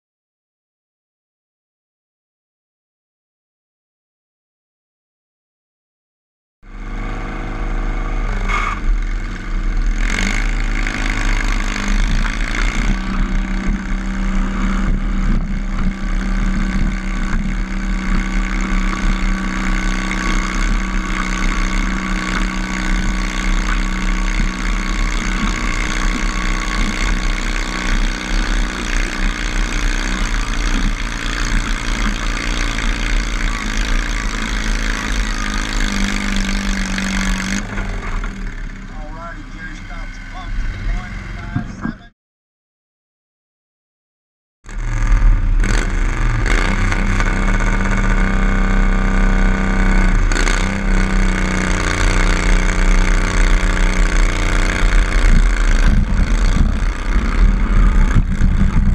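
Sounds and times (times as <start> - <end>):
tractor engine running under load: 6.7 - 42.1, 44.7 - 58.9.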